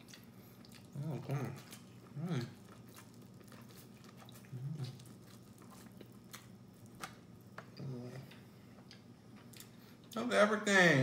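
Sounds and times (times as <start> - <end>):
chewing and mouth sounds: 0.0 - 10.2.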